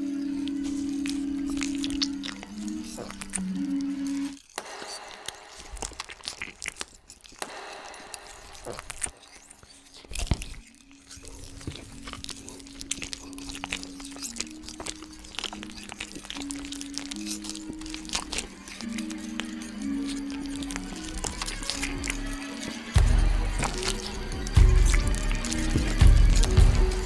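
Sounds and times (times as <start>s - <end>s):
low held drone: 0.0s - 10.8s, 11.7s - 27.0s
food crunching: 0.0s - 27.0s
wet chewing and biting: 0.0s - 27.0s.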